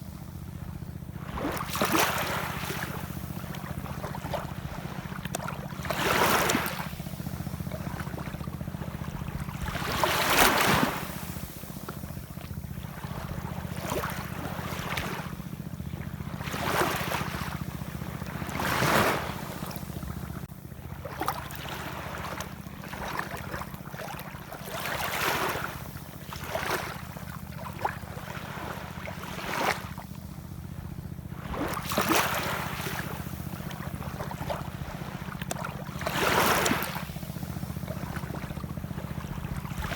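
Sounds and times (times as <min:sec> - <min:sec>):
steady low rumble: 0:00.0 - 0:39.9
ocean waves splashing: 0:01.2 - 0:15.7, 0:16.4 - 0:20.4, 0:21.1 - 0:30.0, 0:31.3 - 0:39.9.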